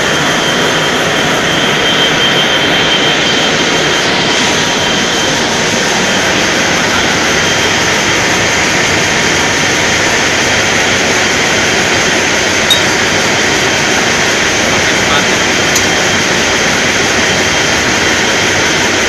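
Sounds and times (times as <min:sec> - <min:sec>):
valve lapping machine running: 0:00.0 - 0:19.0.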